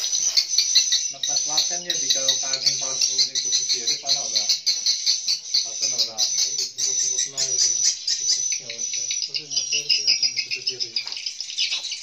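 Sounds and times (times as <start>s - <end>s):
swiftlets twittering: 0.0s - 12.0s.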